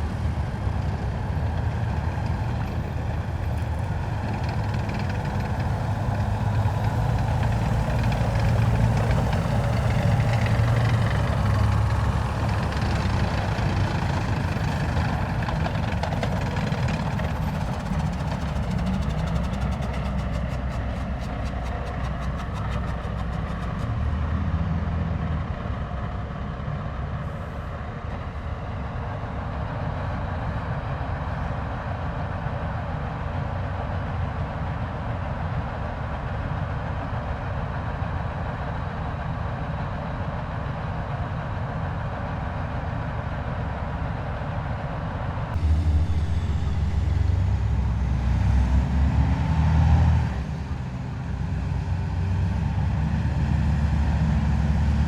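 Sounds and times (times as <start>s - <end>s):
heavy vehicles driving past: 0.0s - 35.9s, 44.5s - 55.0s.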